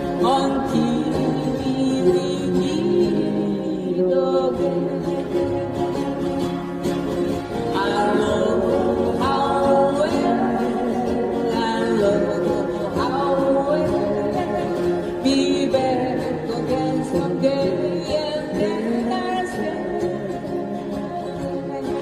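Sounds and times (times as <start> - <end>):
person singing: 0.0 - 6.8, 7.4 - 22.0
acoustic guitar: 0.0 - 22.0.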